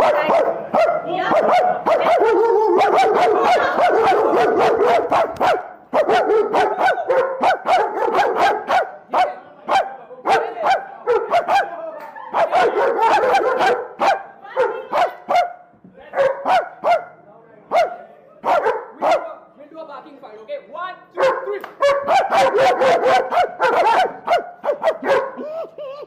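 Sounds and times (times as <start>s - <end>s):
dog barking rapidly: 0.0s - 19.3s, 21.2s - 25.4s.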